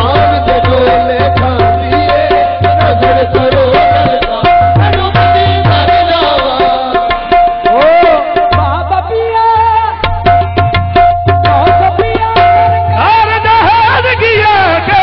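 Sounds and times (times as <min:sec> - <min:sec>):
tabla playing a brisk rhythm: 0:00.0 - 0:15.0.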